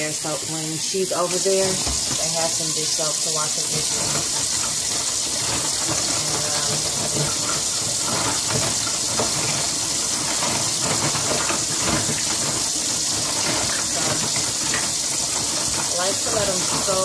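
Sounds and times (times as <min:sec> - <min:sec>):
water splashing in basin: 0:00.0 - 0:17.0
tap running into sink: 0:01.2 - 0:17.0.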